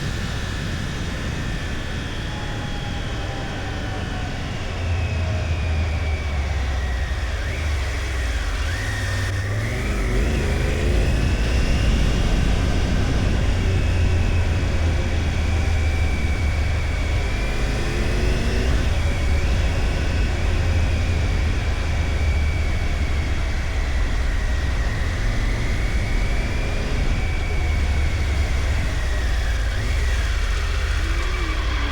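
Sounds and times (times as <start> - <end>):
thin wavering whine: 0.0 - 31.9
motorcycle engine running: 4.4 - 31.9.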